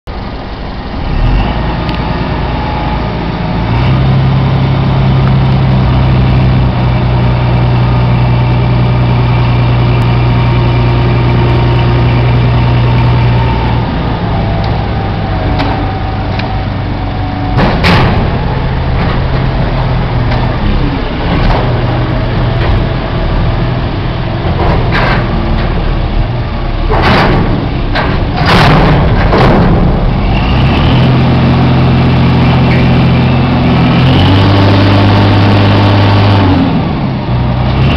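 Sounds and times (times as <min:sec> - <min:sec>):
diesel engine humming under load: 0:00.0 - 0:37.9.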